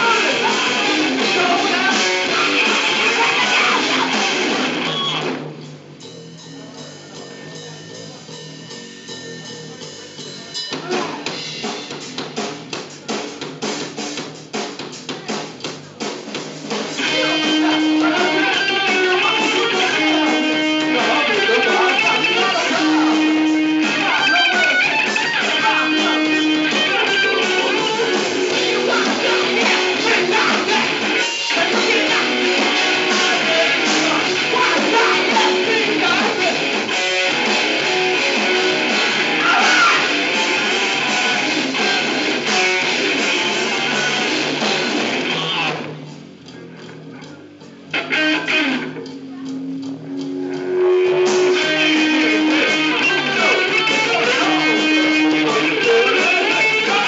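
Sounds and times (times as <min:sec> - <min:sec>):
live band playing rock: 0:00.0 - 0:57.0.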